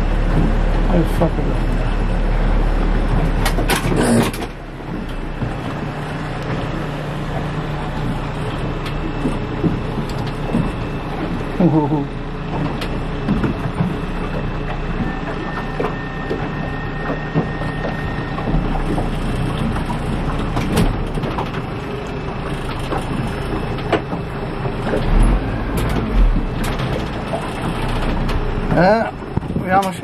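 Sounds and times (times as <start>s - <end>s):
outboard motor running: 0.0s - 30.0s
water around boat hull: 0.0s - 30.0s.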